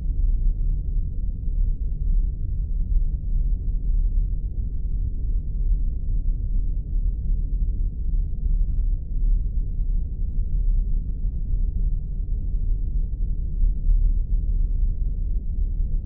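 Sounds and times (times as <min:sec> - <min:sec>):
steady deep rumble: 0:00.0 - 0:16.0.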